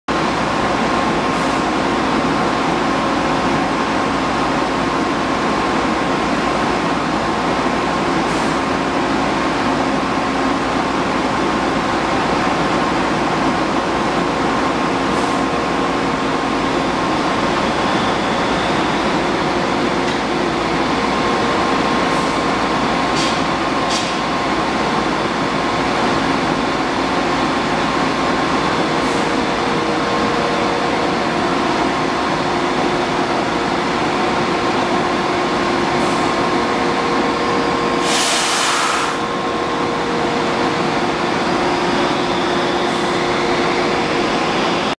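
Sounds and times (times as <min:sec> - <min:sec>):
machinery humming and whining: 0:00.1 - 0:45.0.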